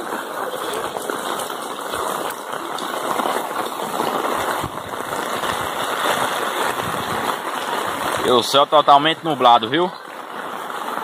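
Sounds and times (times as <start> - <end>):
heavy rain on cobblestones: 0.0 - 11.0.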